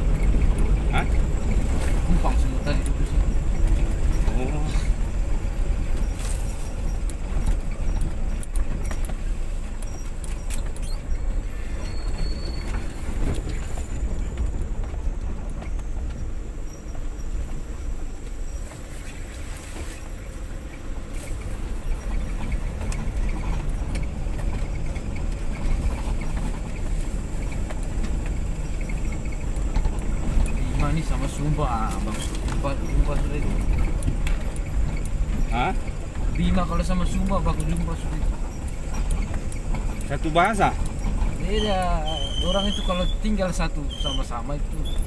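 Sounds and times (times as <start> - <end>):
palm fronds brushing vehicle: 0.0 - 14.7, 16.9 - 45.0
body rattles and clicks: 0.0 - 45.0
vehicle engine and road rumble: 0.0 - 45.0.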